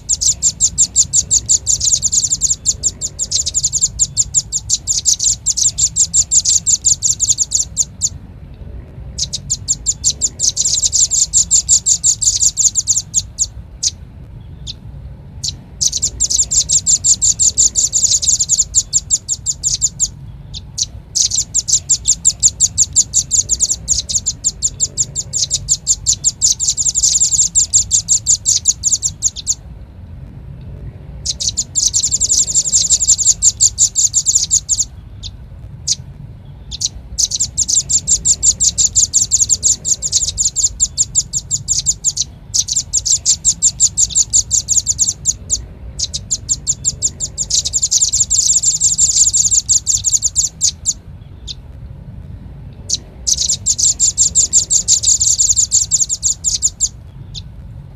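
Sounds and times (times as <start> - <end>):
bird trilling high chirps: 0.0 - 8.2, 9.1 - 29.6, 31.2 - 51.7, 52.8 - 57.6.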